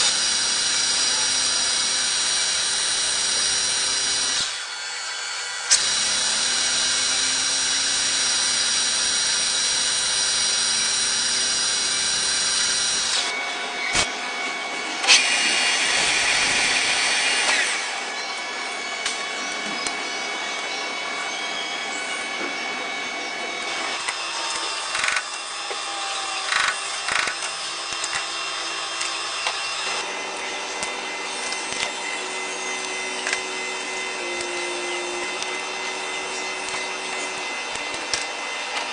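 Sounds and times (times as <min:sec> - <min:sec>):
machine tool cutting metal: 0:00.0 - 0:14.1, 0:14.9 - 0:19.9, 0:23.5 - 0:38.9.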